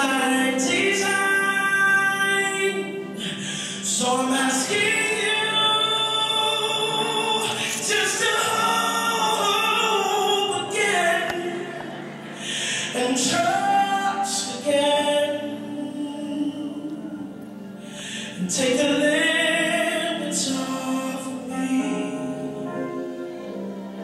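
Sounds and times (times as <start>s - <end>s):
gospel voices singing: 0.0s - 24.0s.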